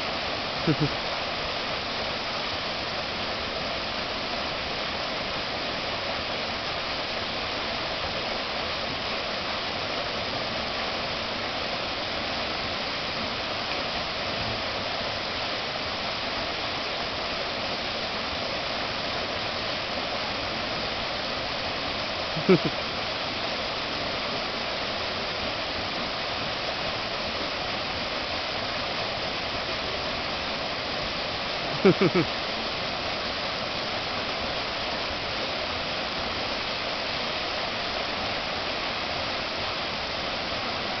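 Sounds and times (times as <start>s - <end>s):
waterfall pouring into pool: 0.0s - 41.0s.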